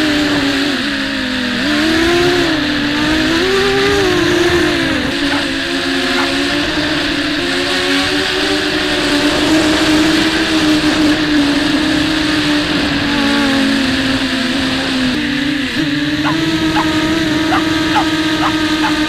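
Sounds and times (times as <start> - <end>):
quadcopter motors buzzing: 0.0 - 19.0.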